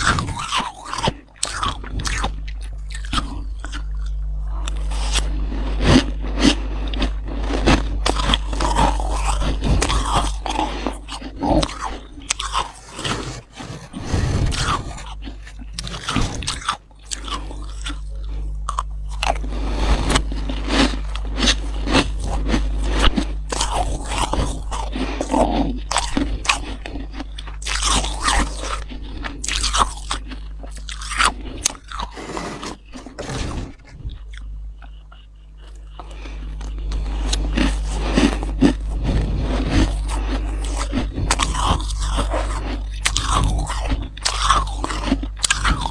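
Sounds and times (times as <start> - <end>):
frost crunching when chewed: 0.0 - 45.9.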